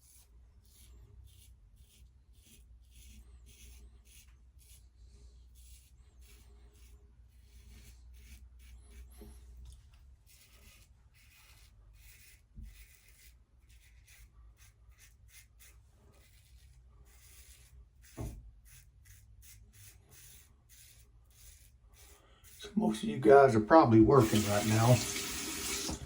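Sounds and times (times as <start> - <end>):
razor scraping stubble: 0.0 - 26.0.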